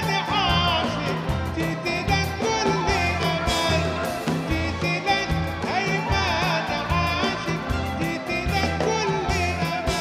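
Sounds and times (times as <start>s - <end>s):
live band music: 0.0s - 10.0s
man singing: 0.0s - 10.0s.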